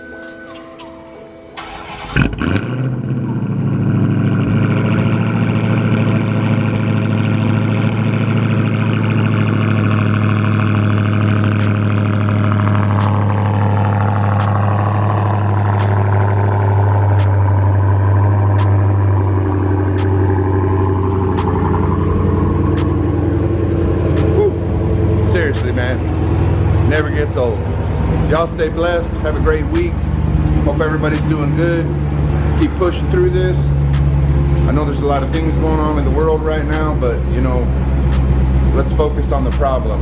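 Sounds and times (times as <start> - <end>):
car engine cold start and idle: 0.0 - 40.0.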